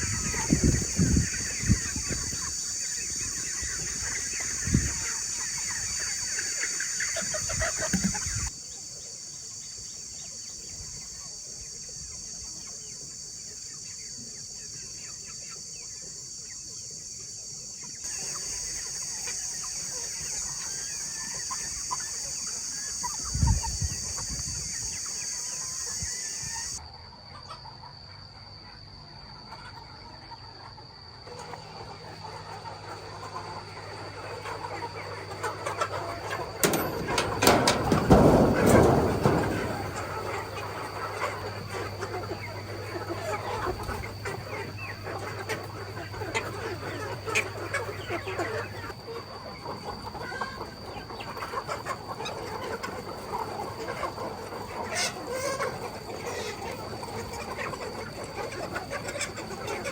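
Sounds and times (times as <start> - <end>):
chickens clucking and chirping: 0.0 - 59.9.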